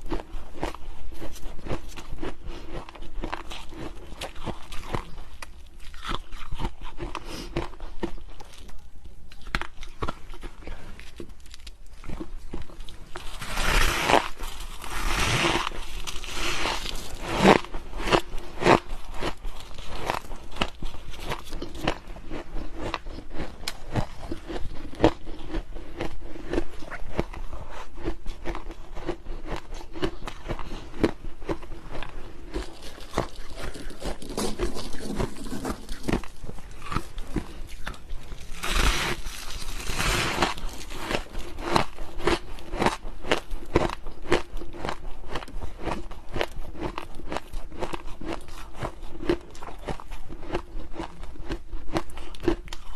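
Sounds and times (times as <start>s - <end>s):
chewing crunchy frost: 0.0s - 52.9s.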